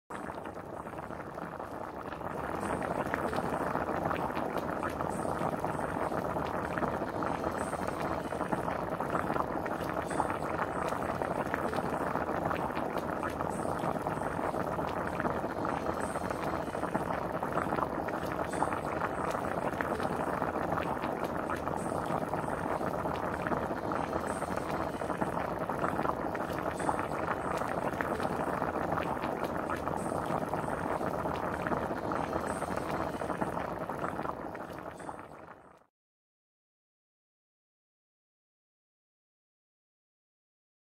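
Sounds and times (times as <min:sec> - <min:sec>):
soup bubbling in a pan: 0:00.1 - 0:35.9.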